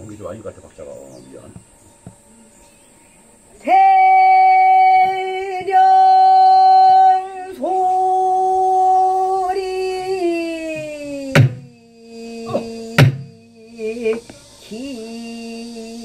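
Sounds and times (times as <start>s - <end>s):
woman singing unaccompanied: 2.2s - 16.0s.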